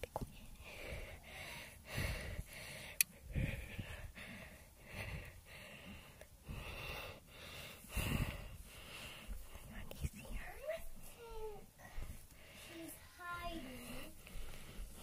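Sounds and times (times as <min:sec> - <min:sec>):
person breathing softly: 0:00.3 - 0:15.0.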